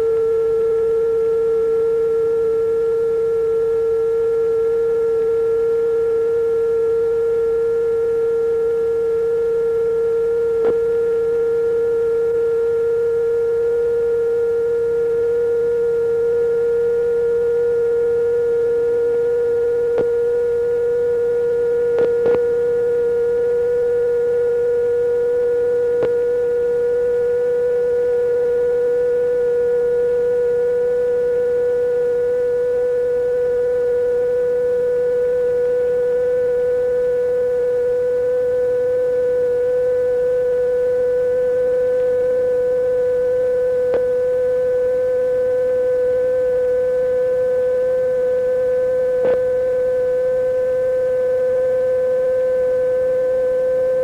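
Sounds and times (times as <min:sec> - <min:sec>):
electronic sine-wave tone: 0:00.0 - 0:54.0.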